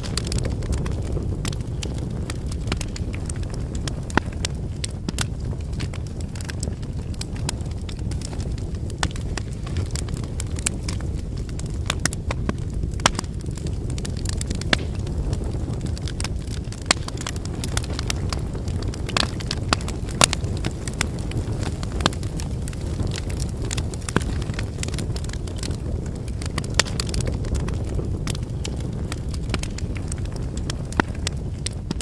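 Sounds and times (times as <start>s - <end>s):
low rush of flames: 0.0s - 32.0s
wood fire crackling and popping: 0.0s - 32.0s.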